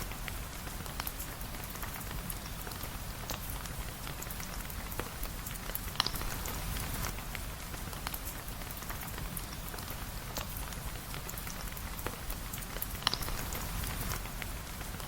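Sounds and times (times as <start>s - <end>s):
sharp drip-like ticks: 0.0s - 15.0s
steady rain hissing: 0.0s - 15.0s.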